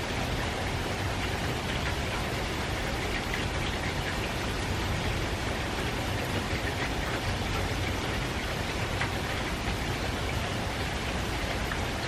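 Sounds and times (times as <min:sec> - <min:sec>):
gentle rain on foliage: 0:00.0 - 0:12.0.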